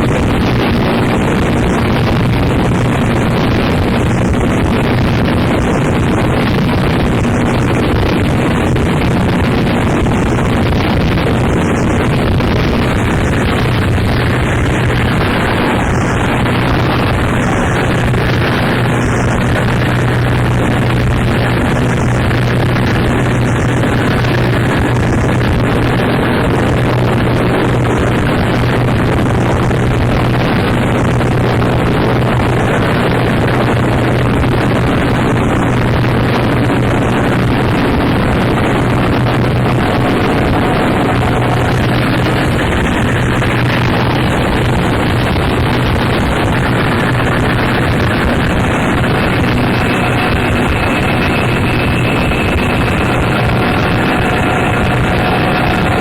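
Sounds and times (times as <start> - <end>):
low drone: 0.0 - 56.0
steady low hum: 0.0 - 56.0
wall of distorted noise: 0.0 - 56.0.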